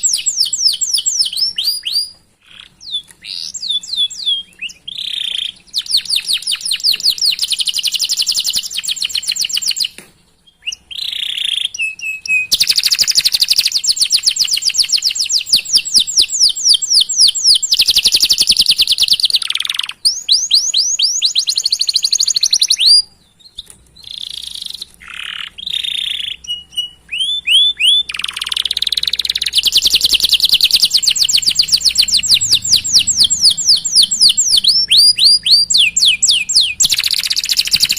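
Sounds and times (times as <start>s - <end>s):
canary singing trills: 0.0s - 37.9s
short bird chirps: 0.0s - 37.9s.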